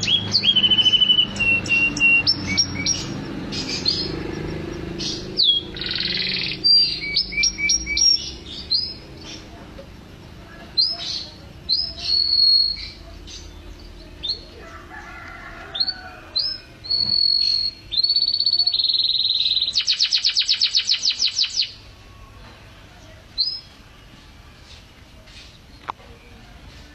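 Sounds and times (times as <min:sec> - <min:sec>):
canary singing: 0:00.0 - 0:26.9.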